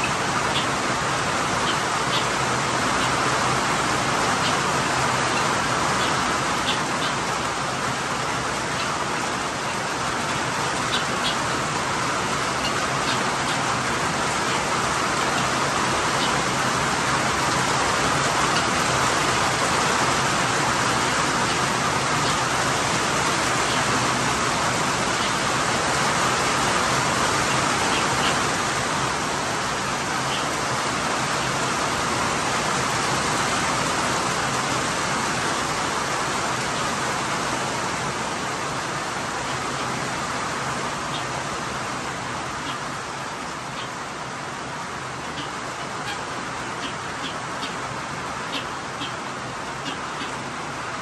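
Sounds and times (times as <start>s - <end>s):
rain on a tin roof: 0.0s - 51.0s.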